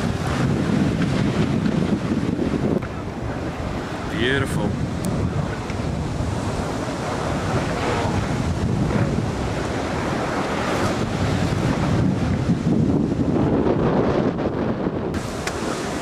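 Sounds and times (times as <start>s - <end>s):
surf breaking and washing: 0.0s - 16.0s
wind rumble on microphone: 0.0s - 16.0s.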